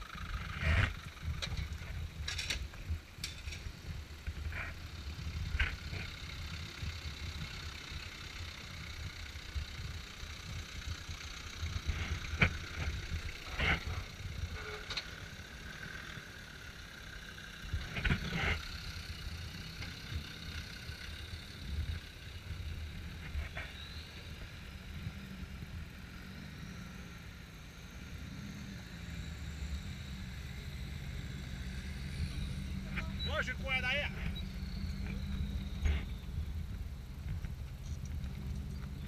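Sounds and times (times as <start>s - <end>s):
off-road vehicle engines running low: 0.0s - 39.0s.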